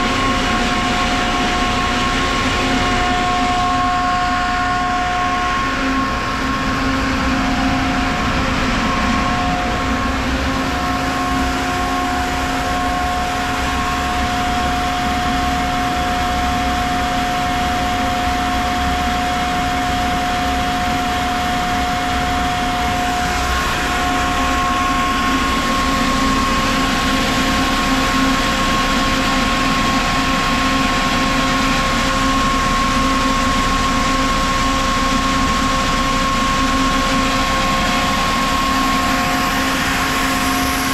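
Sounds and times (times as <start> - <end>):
air compressor droning: 0.0 - 40.9.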